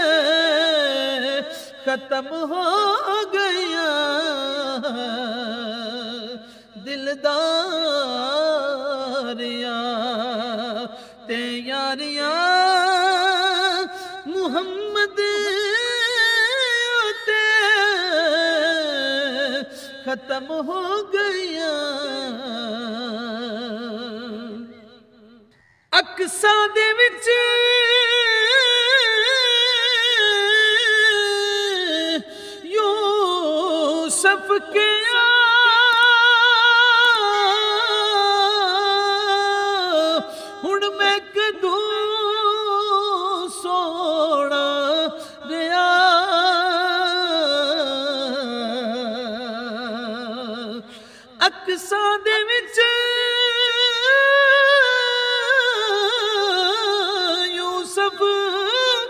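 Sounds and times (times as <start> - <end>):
man singing unaccompanied: 0.0 - 59.0.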